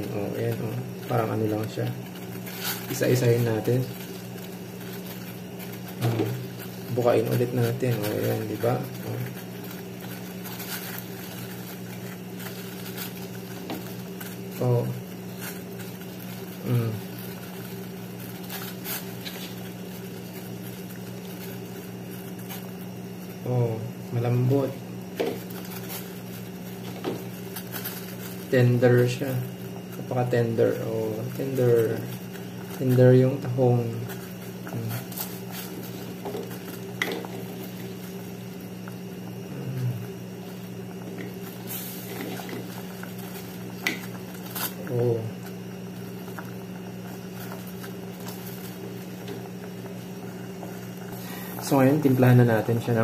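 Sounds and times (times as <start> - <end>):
low steady hum: 0.0 - 53.0
water boiling and bubbling: 0.0 - 53.0.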